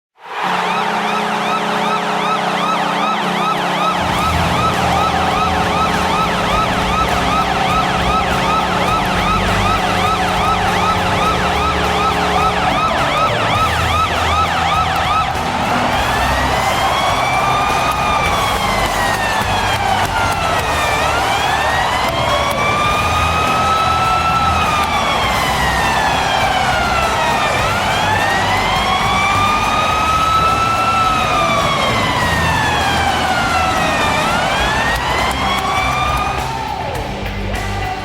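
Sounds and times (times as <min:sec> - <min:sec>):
low goal horn chord: 0:00.2 - 0:36.5
yelping siren: 0:00.2 - 0:37.0.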